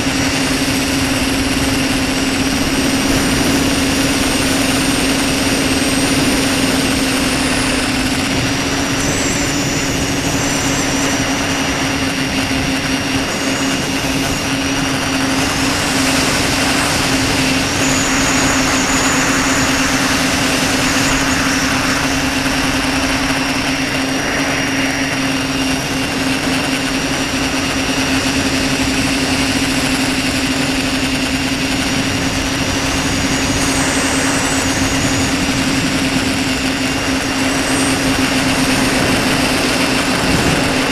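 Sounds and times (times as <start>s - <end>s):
drone motors buzzing: 0.0s - 40.9s
high motor whine: 0.0s - 40.9s.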